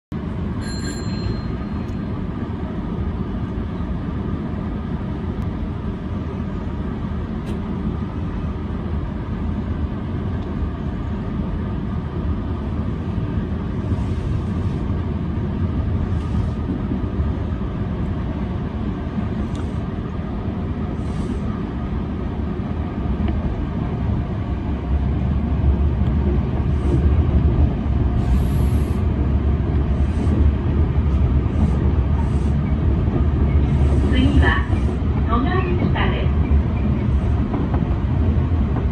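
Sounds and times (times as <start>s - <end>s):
train wheels rumbling on rail: 0.1s - 38.9s.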